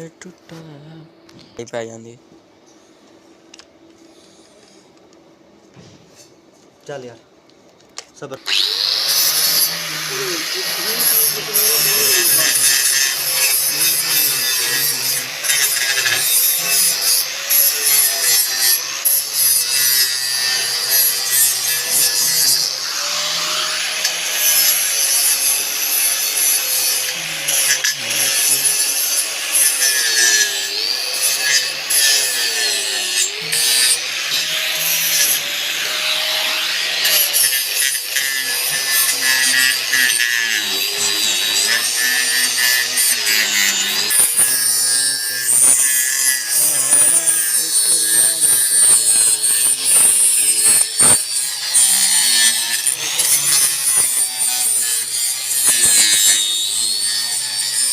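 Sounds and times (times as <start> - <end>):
power cutting tool grinding: 8.3 - 57.9.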